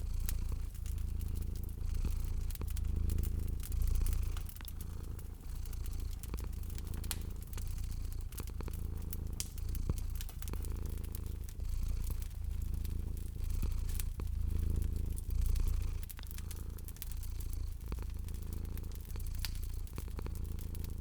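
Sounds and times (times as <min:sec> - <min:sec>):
cat purring: 0:00.0 - 0:21.0
wood fire crackling and popping: 0:00.0 - 0:21.0.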